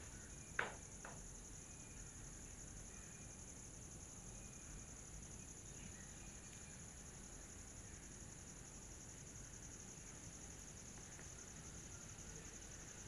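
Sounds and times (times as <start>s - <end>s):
high-pitched pulsing hiss: 0.0s - 13.0s.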